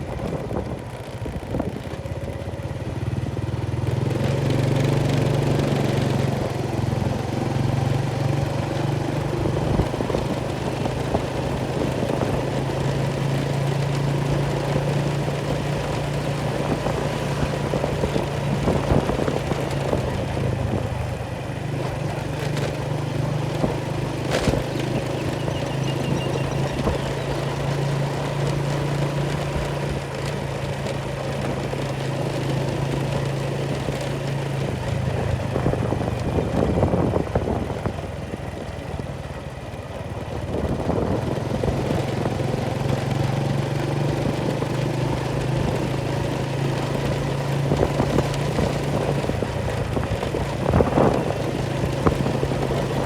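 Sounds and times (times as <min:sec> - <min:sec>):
small engine droning: 0:00.0 - 0:53.0.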